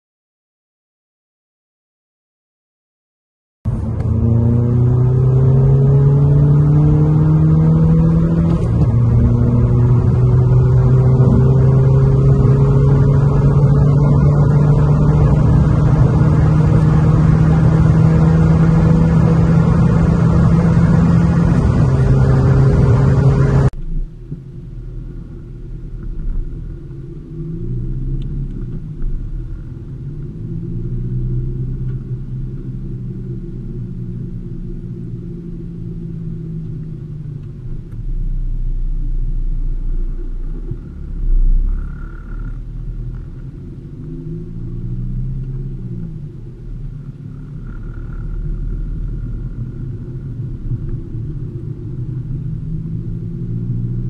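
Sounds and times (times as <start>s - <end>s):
diesel engine accelerating hard: 3.7s - 54.0s.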